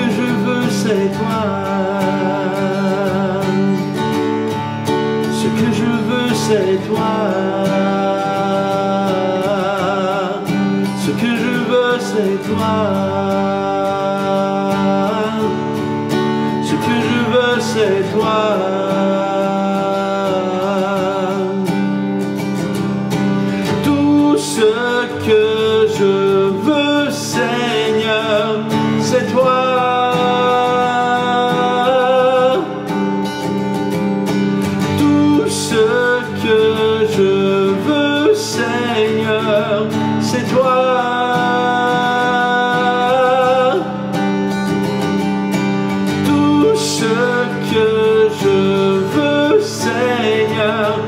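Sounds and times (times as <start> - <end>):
acoustic guitar strumming: 0.0 - 51.0
man singing: 0.0 - 51.0.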